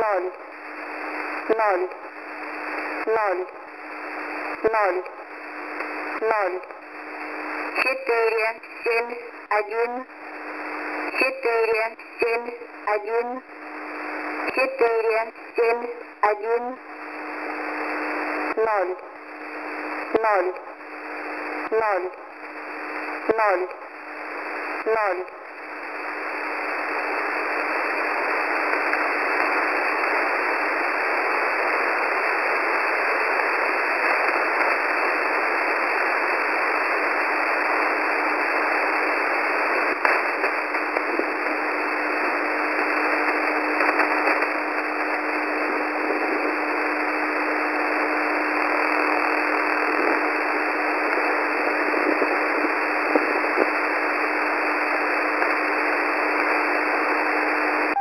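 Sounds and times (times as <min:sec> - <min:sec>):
radio static hiss: 0:00.0 - 0:58.0
faint crackles: 0:00.2 - 0:58.0.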